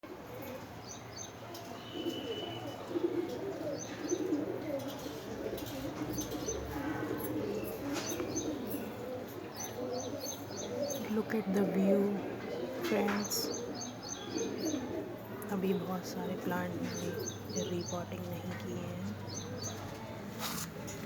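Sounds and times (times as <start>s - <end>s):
doves cooing: 0.1s - 21.0s
small birds chirping: 0.4s - 21.0s.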